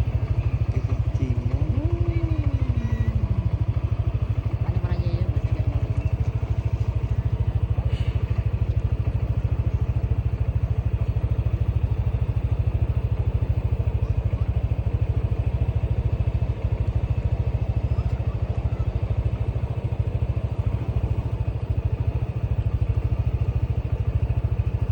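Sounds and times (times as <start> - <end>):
engine running with low throb: 0.0 - 24.9.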